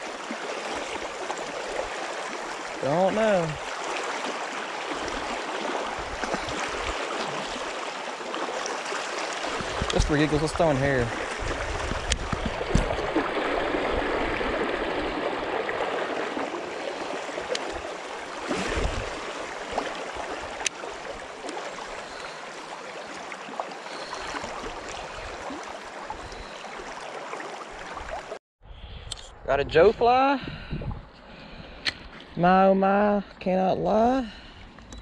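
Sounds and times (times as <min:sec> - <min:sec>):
river water babbling: 0:00.0 - 0:28.4.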